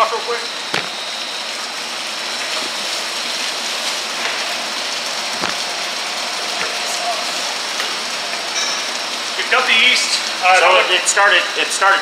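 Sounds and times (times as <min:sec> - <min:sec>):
slurry pouring into a drain: 0:00.3 - 0:12.0.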